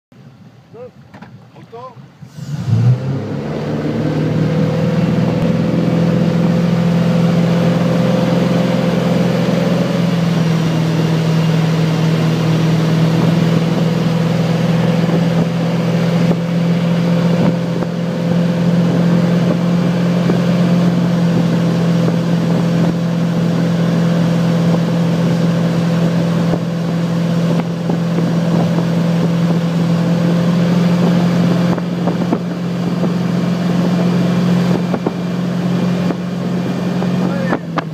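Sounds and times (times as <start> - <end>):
motorboat engine: 0.4 - 37.9
rush of boat wake: 1.8 - 37.9.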